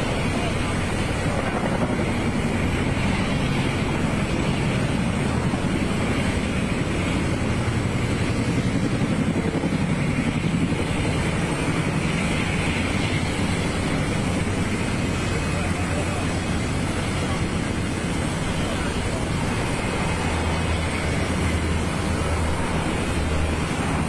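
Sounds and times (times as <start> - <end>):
jet turbine running: 0.0 - 24.0
wind buffeting microphone: 0.0 - 24.0.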